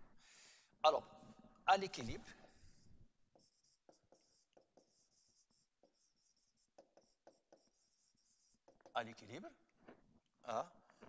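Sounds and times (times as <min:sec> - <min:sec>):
stylus tapping and scratching: 0:01.9 - 0:11.0.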